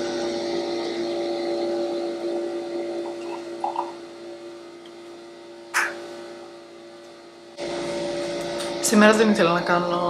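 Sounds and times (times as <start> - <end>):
coffee machine humming: 0.0 - 10.0.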